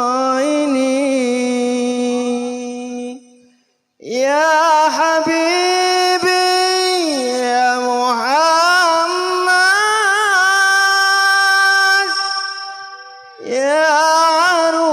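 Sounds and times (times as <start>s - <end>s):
man singing unaccompanied: 0.0s - 3.4s, 4.0s - 14.9s.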